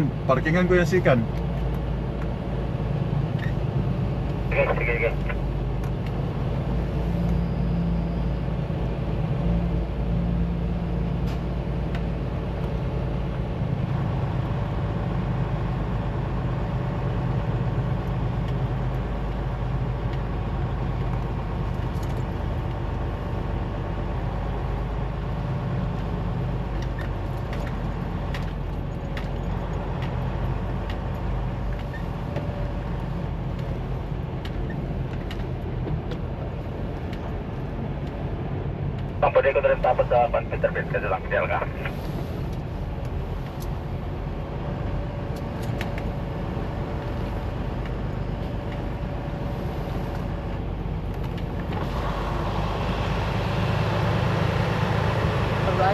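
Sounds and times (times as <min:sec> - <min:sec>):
diesel truck engine running: 0:00.0 - 0:55.9.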